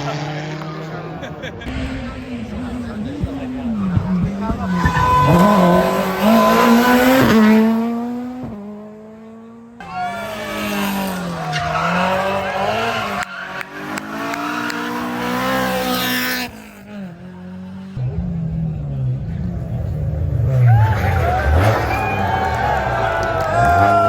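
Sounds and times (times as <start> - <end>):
car engine revving: 0.0 - 24.0
rally car accelerating hard: 0.0 - 24.0.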